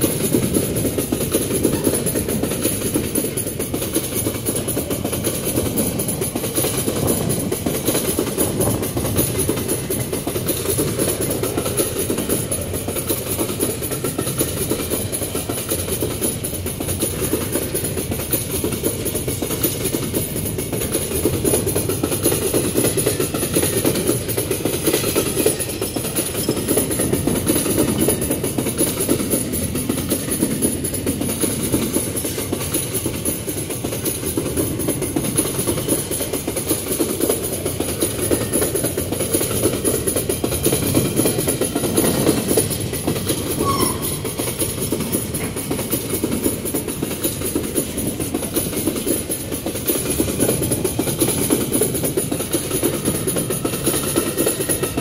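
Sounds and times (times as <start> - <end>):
train wagons rumbling on rails: 0.0 - 55.0.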